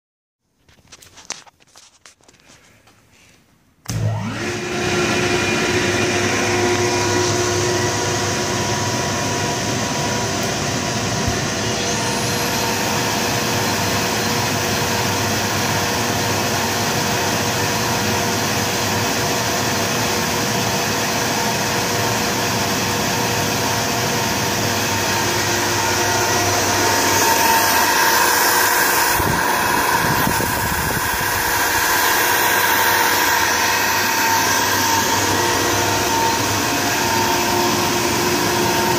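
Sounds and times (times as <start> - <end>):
air compressor humming: 3.9 - 38.9.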